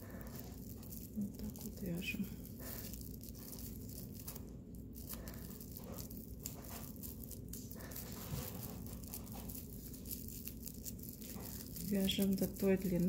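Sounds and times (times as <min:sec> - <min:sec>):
plastic yarn crinkling: 0:00.0 - 0:13.0.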